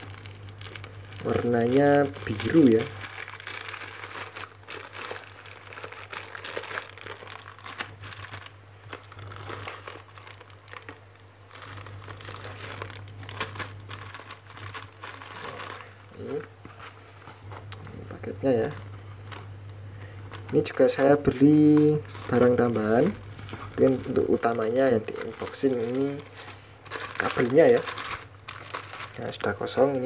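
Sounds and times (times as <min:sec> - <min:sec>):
plastic wrapping crinkling: 0:00.0 - 0:30.0
steady low hum: 0:00.0 - 0:30.0.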